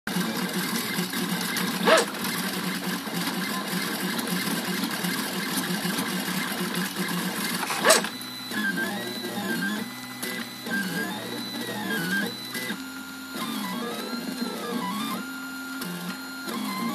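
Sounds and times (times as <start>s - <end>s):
printer stepper motors buzzing: 0.1s - 16.9s
printer whirr rising and falling: 0.1s - 16.9s.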